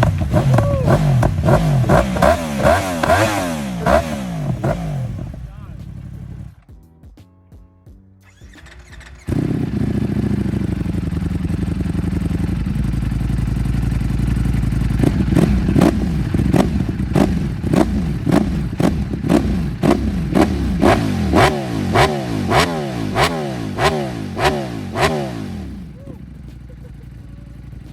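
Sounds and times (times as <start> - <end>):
motorcycle engine revving: 0.0 - 6.6, 8.2 - 27.9.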